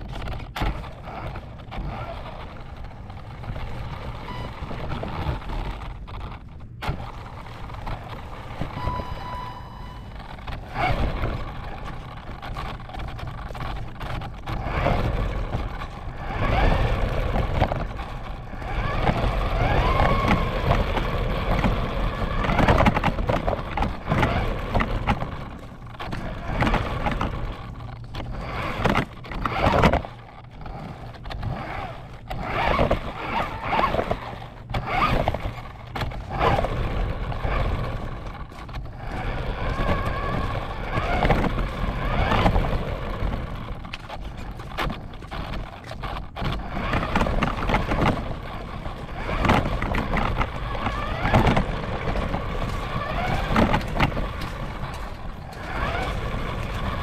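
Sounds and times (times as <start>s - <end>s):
rc car motor whining: 0.0s - 57.0s
wheels rumbling and scraping on ground: 0.0s - 57.0s.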